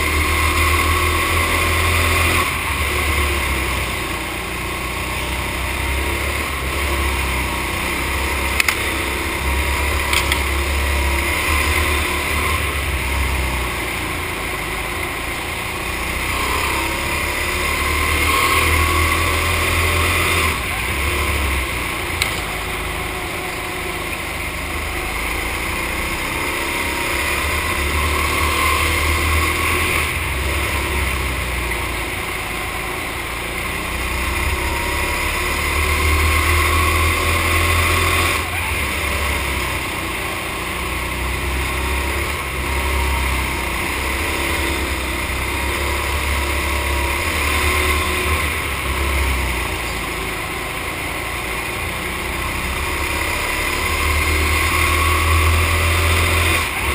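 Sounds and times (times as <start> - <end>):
go-kart engines running hard: 0.0 - 56.9.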